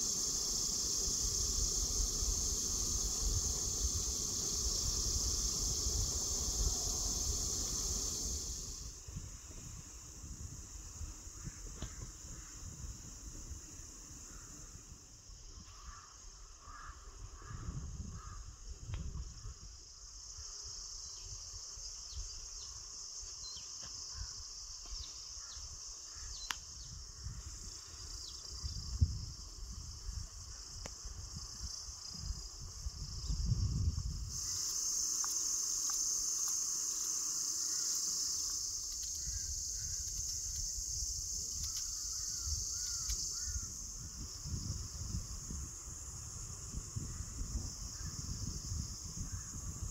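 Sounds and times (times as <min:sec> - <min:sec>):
insect chirring: 0:00.0 - 0:49.9.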